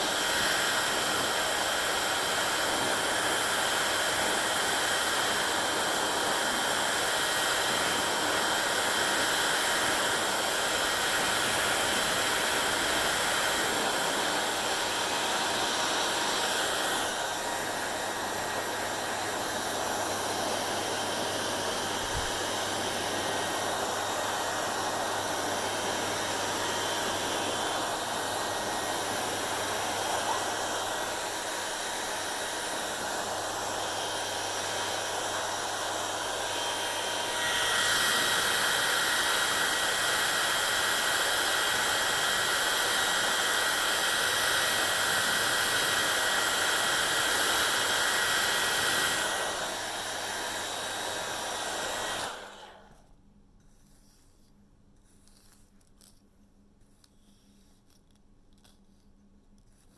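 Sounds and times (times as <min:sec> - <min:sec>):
hair dryer blowing: 0:00.0 - 0:53.1.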